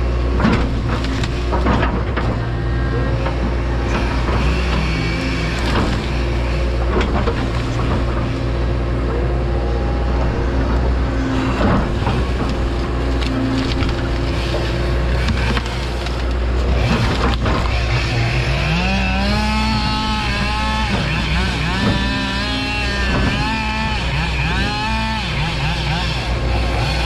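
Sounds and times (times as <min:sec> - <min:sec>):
excavator diesel engine running: 0:00.0 - 0:27.0
wood knocking and cracking: 0:00.3 - 0:06.2, 0:06.8 - 0:08.5, 0:11.4 - 0:25.5.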